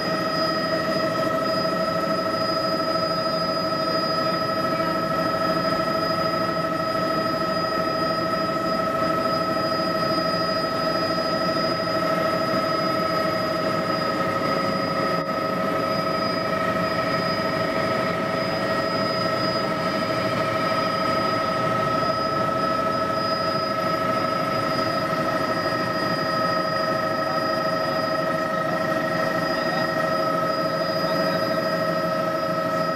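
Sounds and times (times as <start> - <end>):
helicopter engine and rotor drone: 0.0 - 32.9
whining tones: 0.0 - 32.9.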